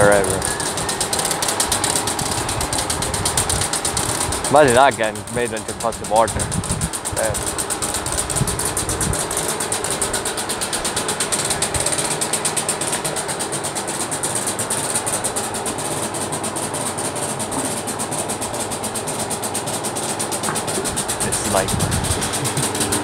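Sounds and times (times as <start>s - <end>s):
rapid mechanical ticking: 0.0s - 23.0s.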